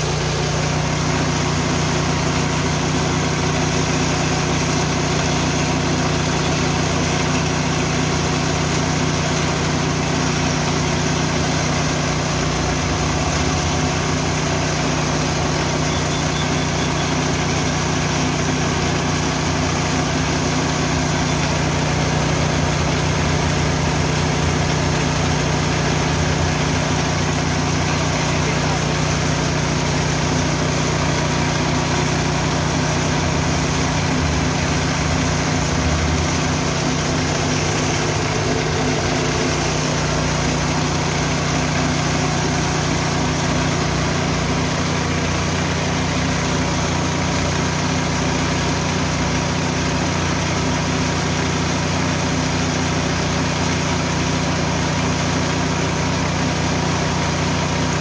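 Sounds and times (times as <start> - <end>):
milling machine humming and whirring: 0.0 - 58.0.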